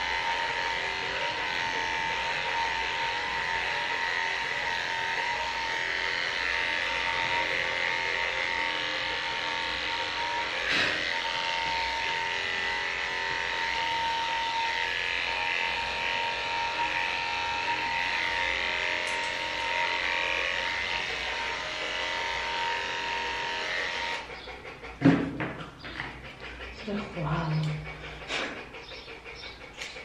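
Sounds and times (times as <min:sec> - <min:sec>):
electric clippers buzzing: 0:00.0 - 0:25.3.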